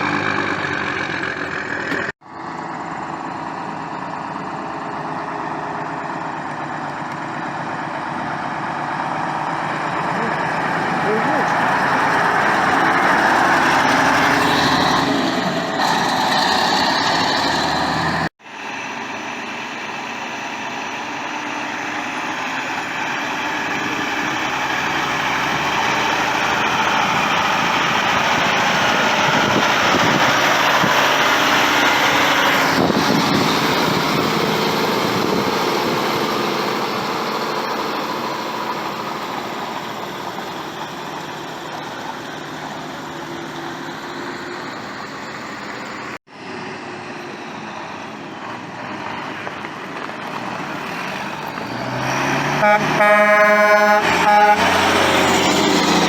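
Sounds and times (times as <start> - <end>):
truck driving past: 0.0 - 56.0
truck engines running: 0.0 - 56.0.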